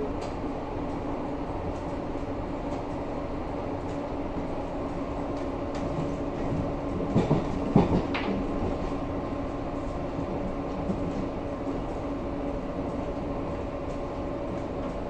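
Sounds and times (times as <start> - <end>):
train running inside carriage: 0.0 - 15.0.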